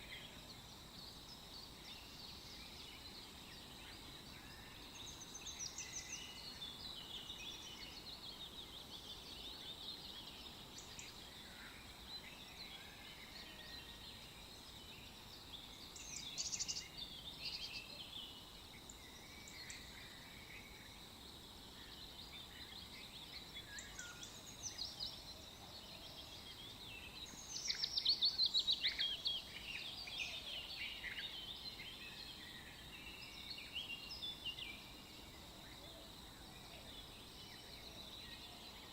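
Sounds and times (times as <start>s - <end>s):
low background hiss: 0.0s - 38.9s
songbirds chirping and singing: 0.0s - 38.9s.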